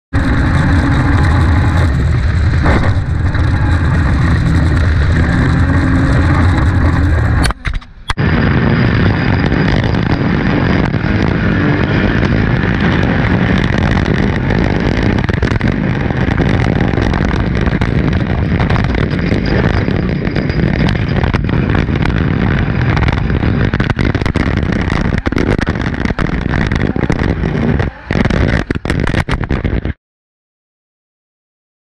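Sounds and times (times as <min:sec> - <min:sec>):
race buggy engine running hard: 0:00.1 - 0:29.9
wind buffeting on camera: 0:00.1 - 0:30.0.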